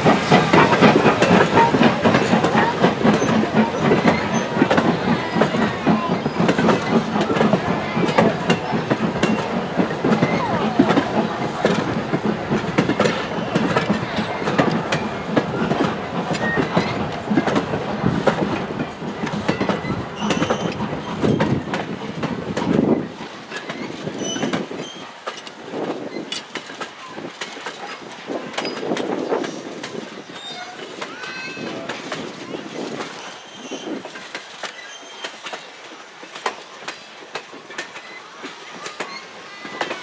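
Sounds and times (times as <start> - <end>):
heavy train rumble: 0.0 - 40.0
train wheels clicking over rail joints: 0.0 - 40.0.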